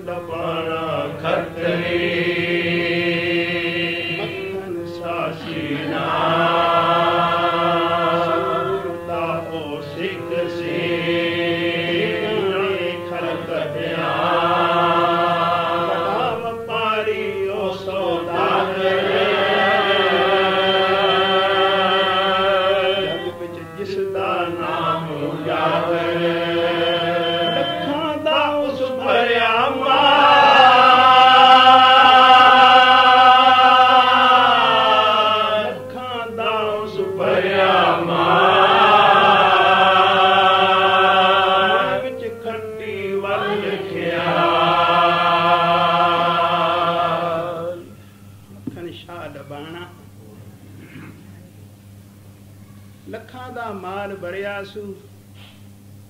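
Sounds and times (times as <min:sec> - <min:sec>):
man singing a devotional hymn: 0:00.0 - 0:48.0
harmonium drone: 0:00.0 - 0:48.7.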